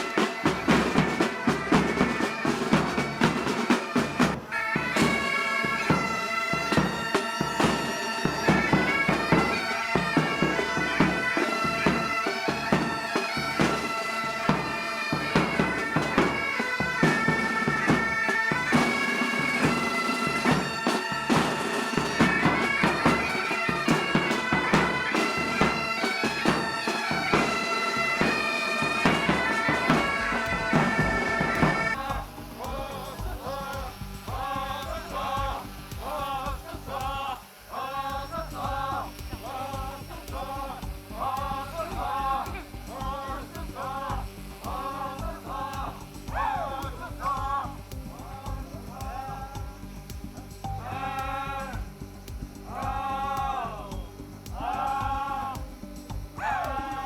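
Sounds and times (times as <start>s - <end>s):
bagpipes playing a tune: 0.0s - 57.0s
drum strokes: 0.0s - 57.0s.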